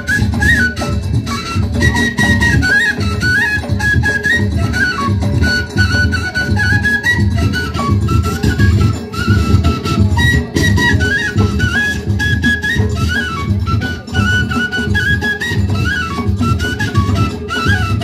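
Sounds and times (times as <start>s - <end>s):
frame drums beating: 0.0s - 18.0s
high piping flute melody: 0.0s - 18.0s.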